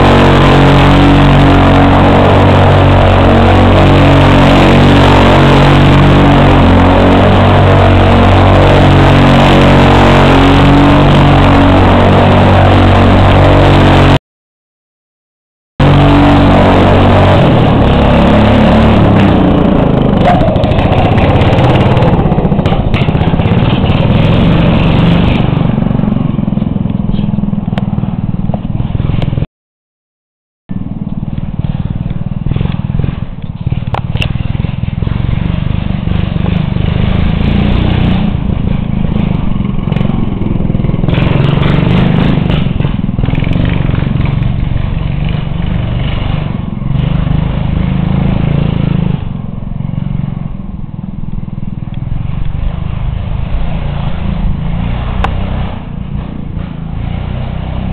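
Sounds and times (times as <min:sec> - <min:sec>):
lawn tractor engine revving: 0:00.0 - 0:14.2, 0:15.8 - 0:29.4, 0:30.7 - 0:57.9.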